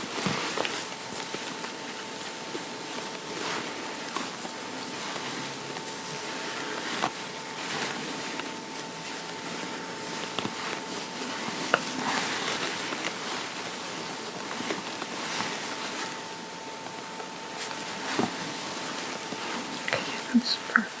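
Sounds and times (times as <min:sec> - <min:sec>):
fabric rustling and brushing: 0:00.0 - 0:21.0.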